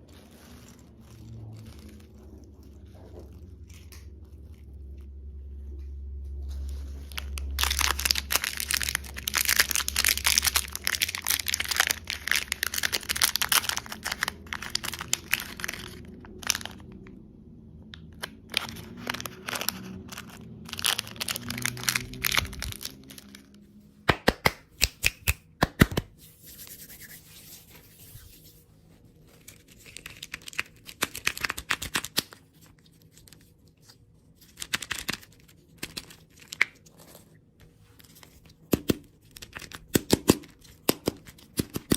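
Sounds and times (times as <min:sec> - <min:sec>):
plastic wrappers crinkling: 0:00.0 - 0:17.2, 0:18.0 - 0:23.7, 0:29.2 - 0:41.9.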